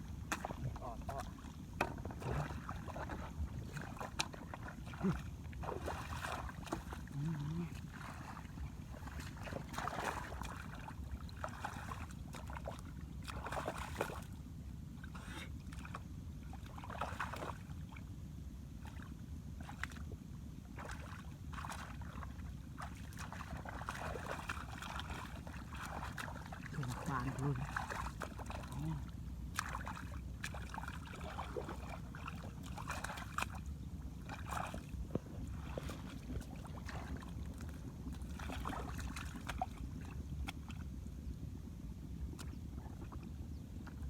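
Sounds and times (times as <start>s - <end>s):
splashing in shallow water: 0.0s - 18.1s, 18.7s - 41.3s, 42.0s - 44.0s.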